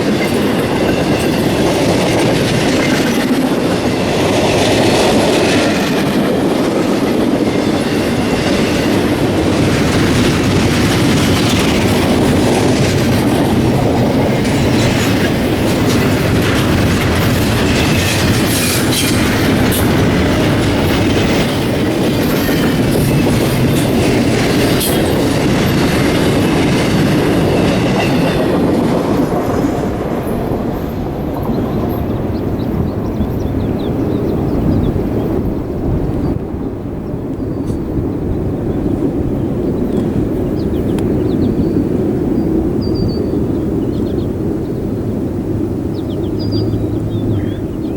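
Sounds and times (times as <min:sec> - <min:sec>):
train wheels clattering over rails: 0:00.0 - 0:47.9.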